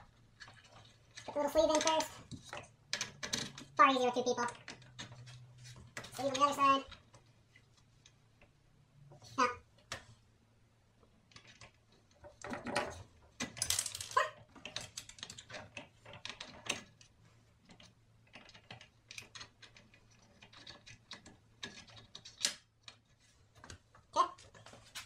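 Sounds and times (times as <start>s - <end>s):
small metal clicks and knocks: 0.0s - 8.6s, 11.2s - 25.0s.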